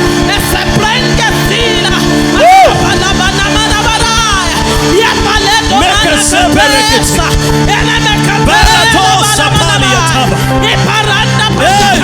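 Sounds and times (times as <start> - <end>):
fast drum beat: 0.0 - 12.0
held keyboard chords: 0.0 - 12.0.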